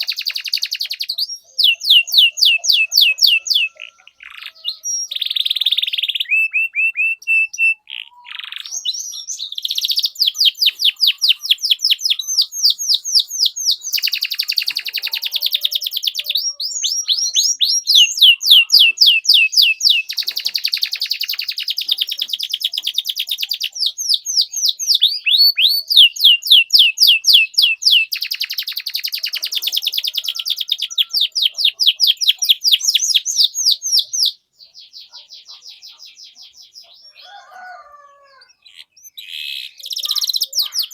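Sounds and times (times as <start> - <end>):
canary singing chirp trills: 0.0 - 40.9.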